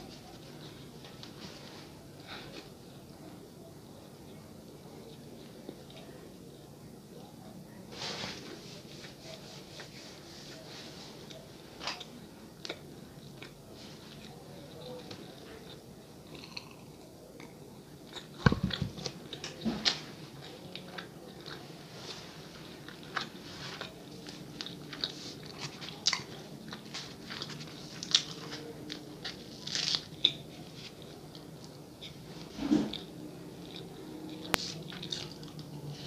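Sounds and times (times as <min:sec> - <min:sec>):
chewing soft bread: 0:00.0 - 0:36.0.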